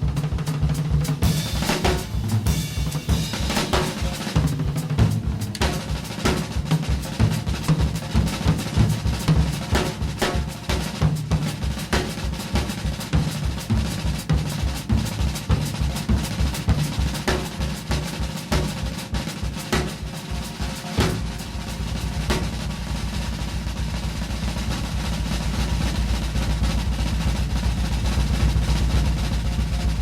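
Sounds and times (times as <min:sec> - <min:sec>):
jazz drum kit solo: 0:00.0 - 0:30.0.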